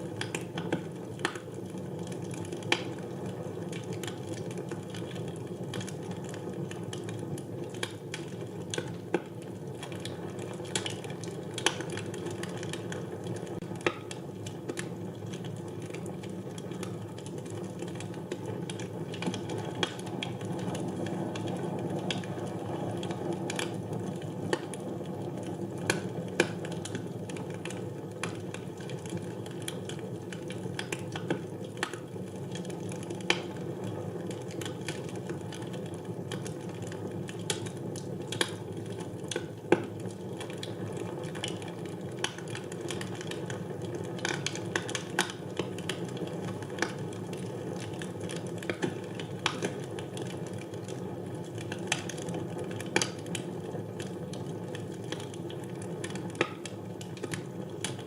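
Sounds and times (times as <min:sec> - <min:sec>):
fire burning in a fireplace: 0:00.0 - 0:58.0
fire crackling and popping: 0:00.0 - 0:58.0.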